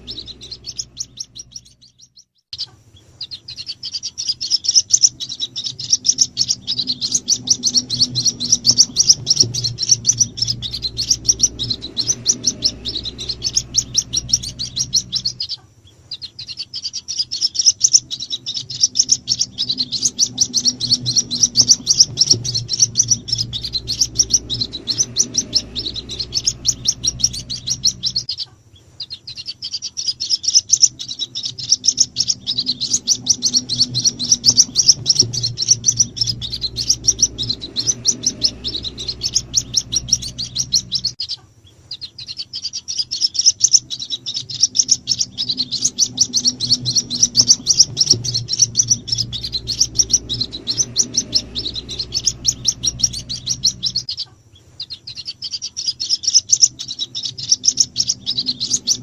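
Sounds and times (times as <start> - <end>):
low hum: 0.0 - 16.5, 17.1 - 41.9, 43.5 - 54.2, 56.4 - 59.0
chicks peeping: 0.0 - 59.0.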